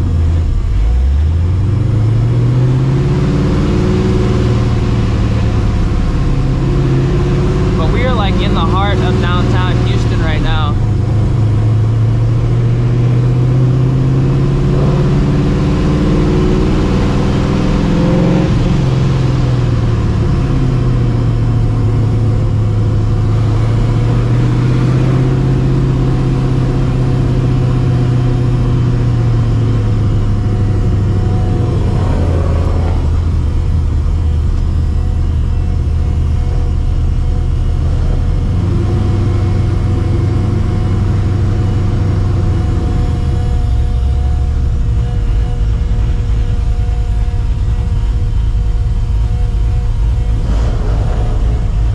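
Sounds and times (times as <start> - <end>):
car engine cruising: 0.0 - 51.9.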